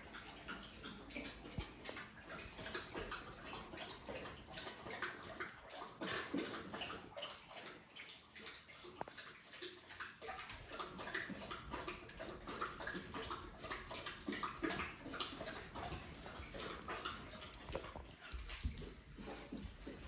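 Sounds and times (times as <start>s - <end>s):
dogs lapping water: 0.0s - 20.0s.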